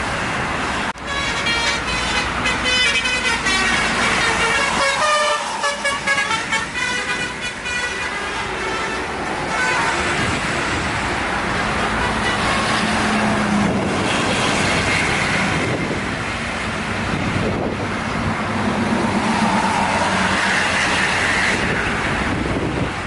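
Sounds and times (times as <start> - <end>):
heavy traffic passing: 0.0 - 23.0.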